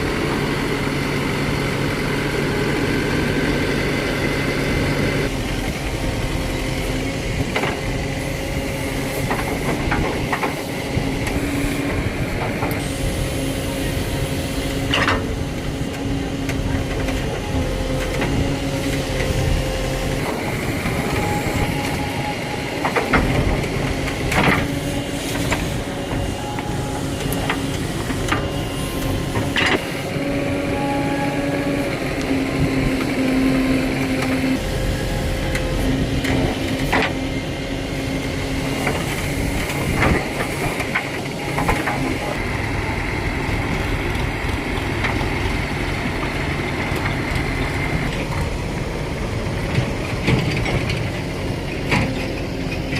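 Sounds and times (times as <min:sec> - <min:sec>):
diesel engine running: 0:00.0 - 0:52.9
hydraulic whine: 0:00.0 - 0:52.9.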